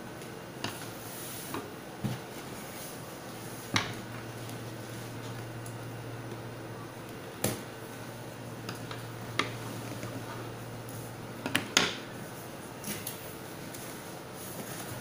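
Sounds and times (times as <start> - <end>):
steady low hum: 0.8 - 15.0.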